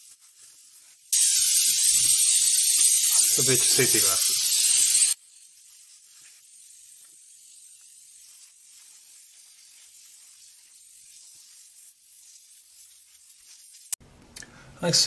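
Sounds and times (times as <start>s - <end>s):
compressed air hissing from nozzle: 0.0s - 14.0s.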